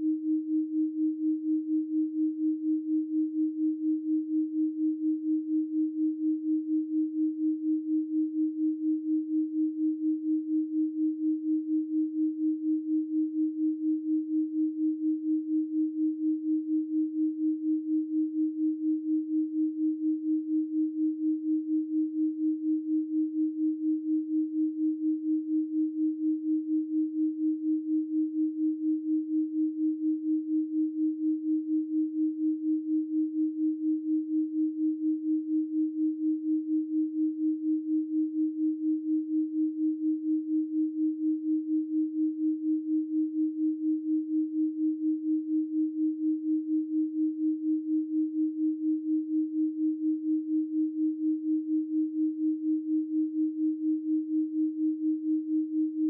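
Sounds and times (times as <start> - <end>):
pulsing electronic sine tone: 0.0 - 56.0.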